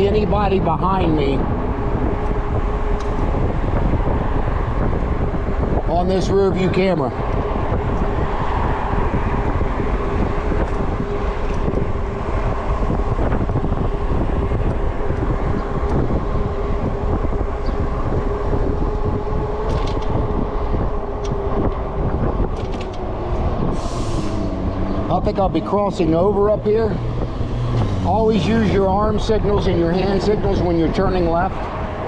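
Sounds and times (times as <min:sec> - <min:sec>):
steady hum: 0:00.0 - 0:32.0
wind rushing over microphone: 0:00.0 - 0:32.0.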